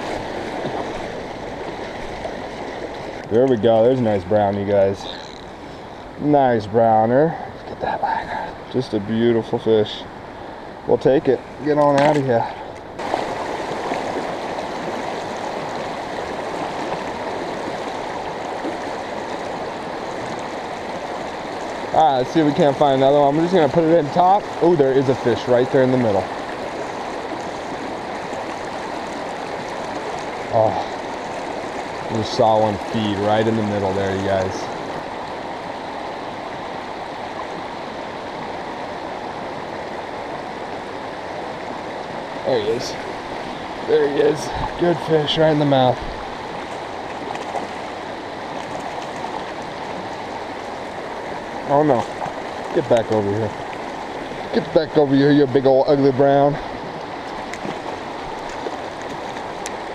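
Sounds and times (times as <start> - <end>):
river current rushing: 0.0 - 59.9.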